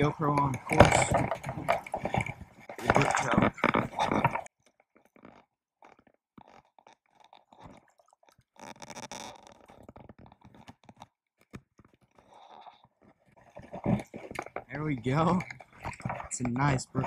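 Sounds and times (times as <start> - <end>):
waders and gear rustling: 0.0 - 11.0, 11.9 - 17.0.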